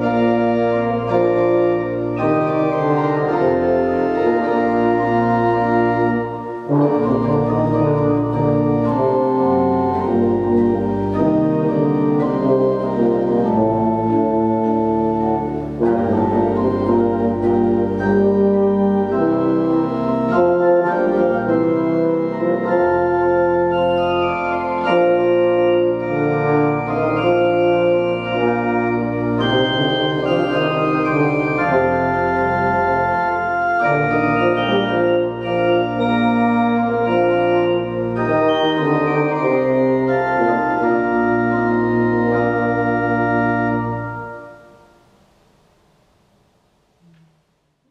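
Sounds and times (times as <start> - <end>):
euphonium playing: 0.0 - 45.1
organ playing held chords: 0.0 - 45.1.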